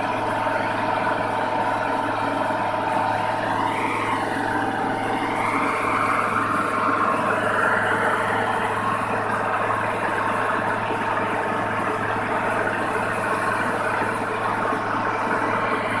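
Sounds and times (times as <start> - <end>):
diesel engine humming: 0.0 - 16.0
grain pouring from auger: 0.0 - 16.0.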